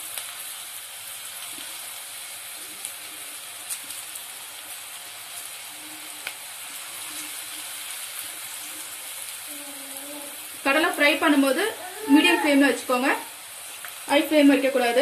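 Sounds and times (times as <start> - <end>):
peanuts deep-frying in oil: 0.0 - 15.0.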